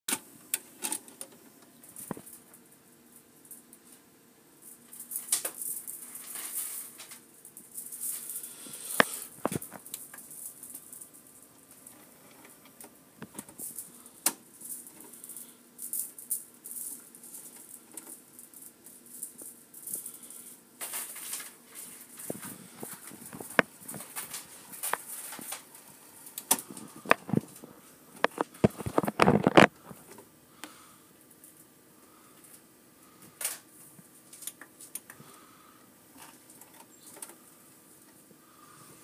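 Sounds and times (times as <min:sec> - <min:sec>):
rustling and scratching: 0:00.6 - 0:30.3, 0:31.3 - 0:39.0.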